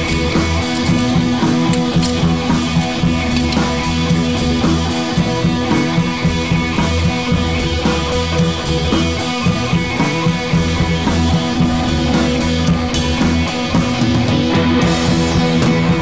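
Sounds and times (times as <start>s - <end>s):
rock music with guitar and drums: 0.0s - 16.0s.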